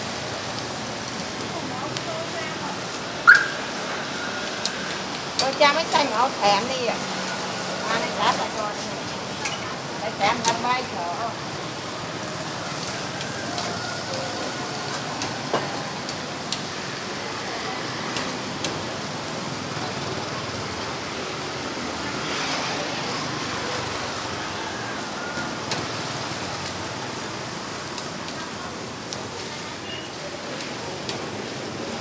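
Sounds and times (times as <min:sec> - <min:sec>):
meat sizzling on a grill: 0:00.0 - 0:32.0.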